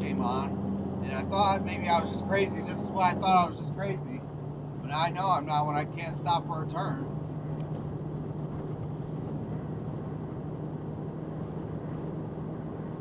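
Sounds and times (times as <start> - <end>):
road noise rumble: 0.0 - 13.0.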